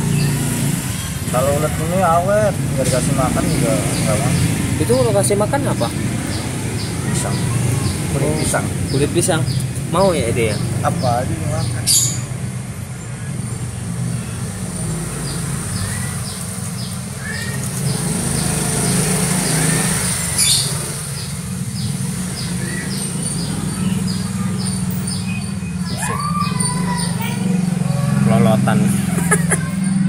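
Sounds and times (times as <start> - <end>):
small bird chirping: 2.8 - 12.4, 14.1 - 30.0.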